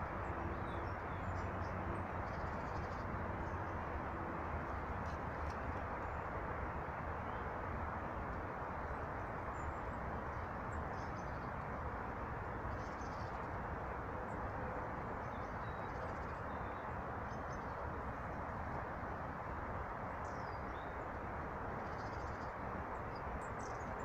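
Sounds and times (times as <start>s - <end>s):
songbirds chirping: 0.1s - 3.9s, 8.3s - 24.0s.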